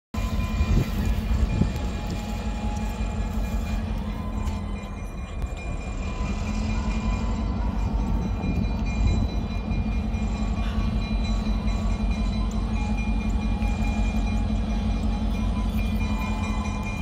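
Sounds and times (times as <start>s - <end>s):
diesel locomotive engine rumbling: 0.1s - 17.0s.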